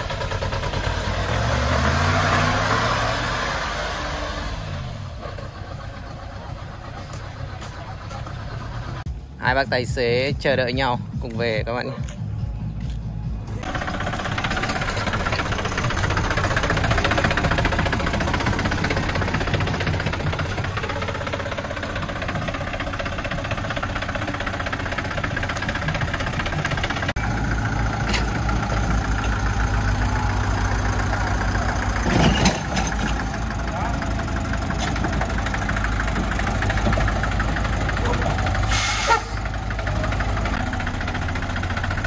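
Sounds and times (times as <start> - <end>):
truck diesel engine running: 0.0 - 11.6, 12.2 - 42.0.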